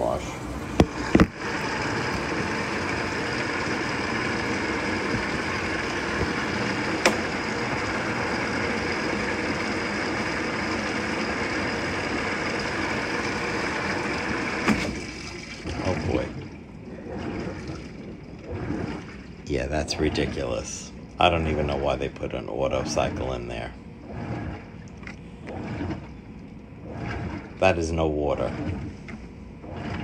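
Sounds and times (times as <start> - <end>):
water filling washing machine tub: 0.0 - 30.0.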